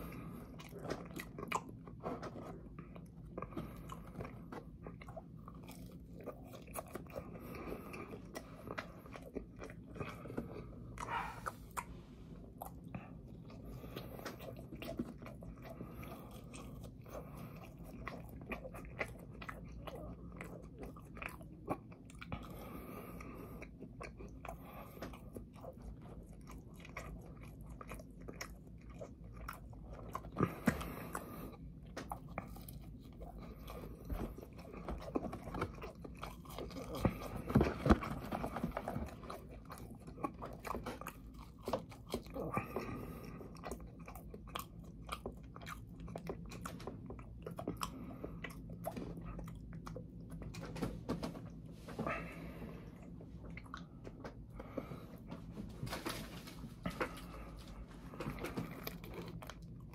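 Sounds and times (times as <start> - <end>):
low steady hum: 0.0 - 59.9
person chewing food: 0.0 - 59.9.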